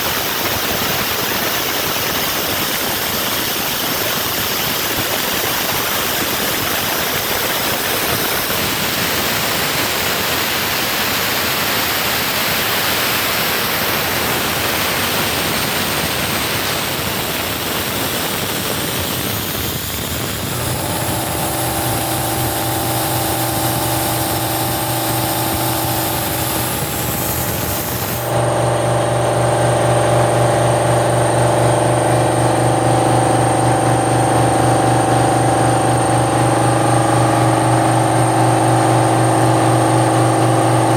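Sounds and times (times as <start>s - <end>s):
machine hum: 0.0s - 40.9s
plasma cutter hissing: 0.0s - 40.9s.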